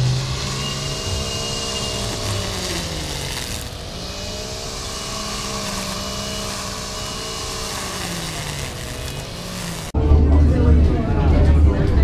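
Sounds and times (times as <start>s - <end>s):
wind or road noise: 0.0s - 10.0s
vehicle engine running: 0.0s - 12.0s.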